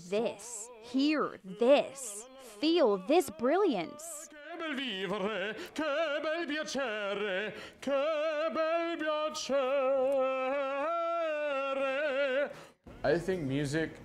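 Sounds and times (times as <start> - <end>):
man singing operatic baritone: 0.2 - 12.7.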